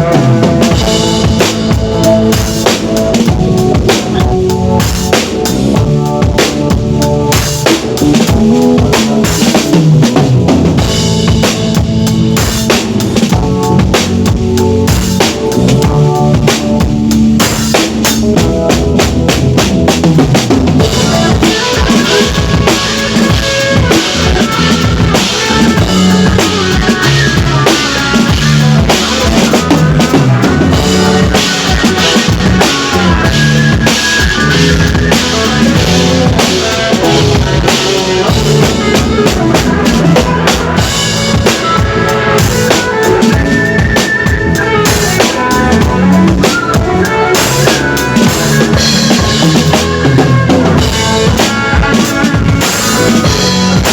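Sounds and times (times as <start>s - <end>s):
drum kit playing: 0.0s - 53.9s
pitched music: 0.0s - 53.9s.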